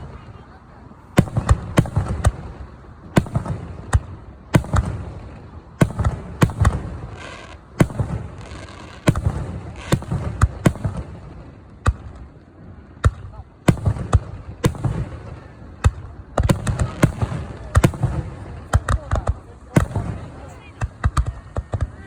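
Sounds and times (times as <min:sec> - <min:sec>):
fireworks bangs: 0:00.0 - 0:12.4, 0:13.0 - 0:22.0.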